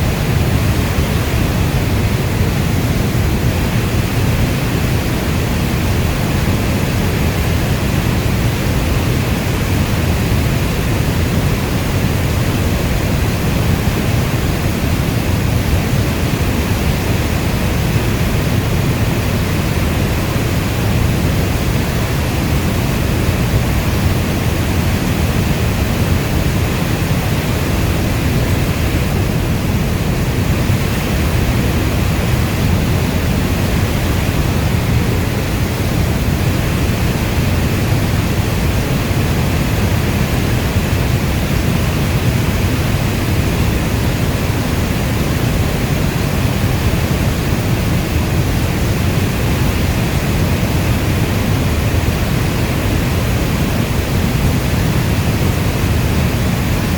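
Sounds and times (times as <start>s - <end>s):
steady rainfall hiss: 0.0s - 56.9s.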